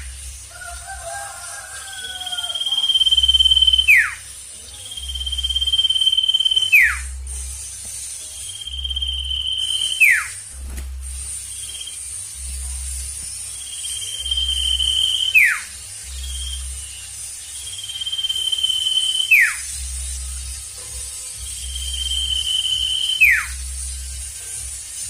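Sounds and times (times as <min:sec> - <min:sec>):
bird whistling call: 0:00.0 - 0:10.4, 0:11.2 - 0:12.5, 0:13.4 - 0:20.7, 0:21.5 - 0:23.8.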